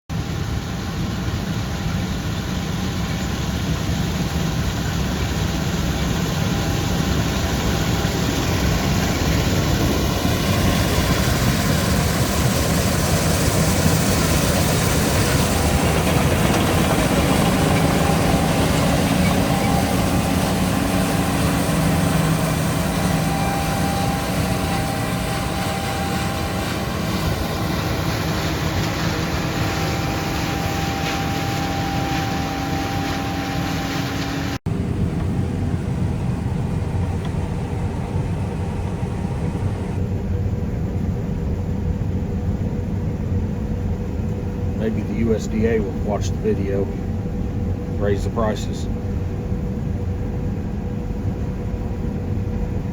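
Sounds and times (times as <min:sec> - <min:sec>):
combine harvester running: 0:00.1 - 0:52.9.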